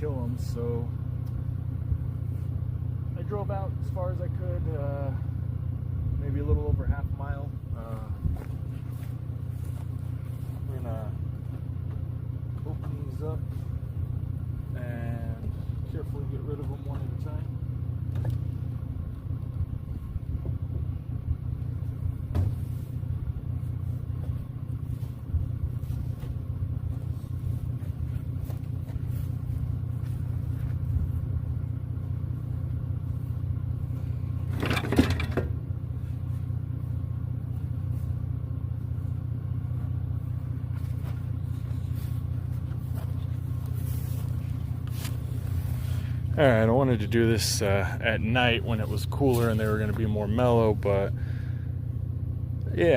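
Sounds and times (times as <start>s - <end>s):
vehicle engine idling: 0.0s - 52.9s.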